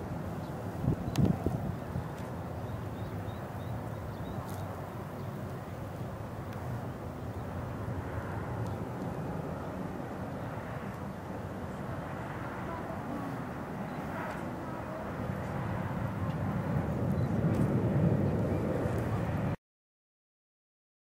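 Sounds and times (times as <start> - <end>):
distant jet airliner rumble: 0.0 - 19.6.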